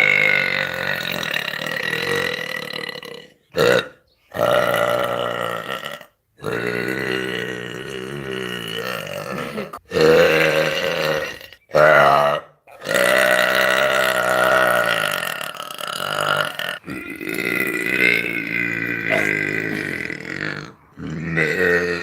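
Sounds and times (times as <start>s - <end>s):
woman belching: 0.0s - 22.0s.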